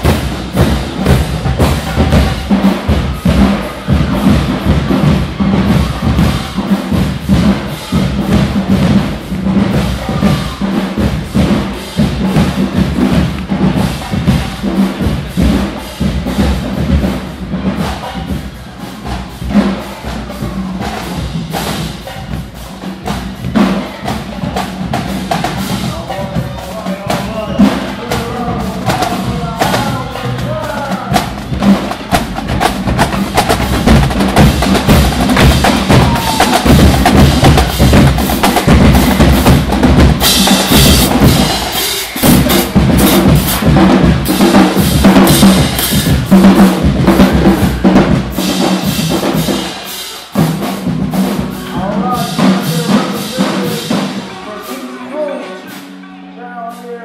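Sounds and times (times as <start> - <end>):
marching drumline cadence: 0.0 - 57.0.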